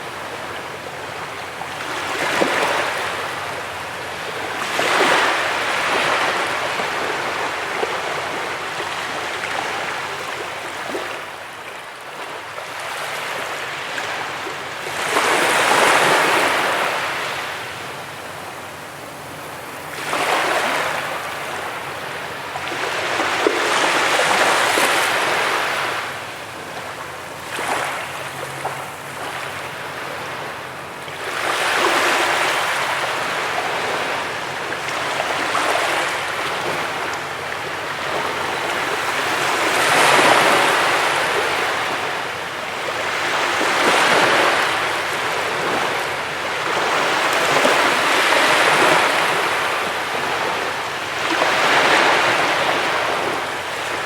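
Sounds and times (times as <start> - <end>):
ocean waves breaking on a beach: 0.0 - 54.0.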